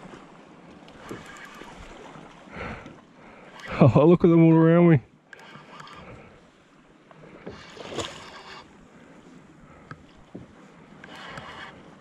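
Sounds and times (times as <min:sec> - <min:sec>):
water lapping around a kayak: 0:00.0 - 0:12.0.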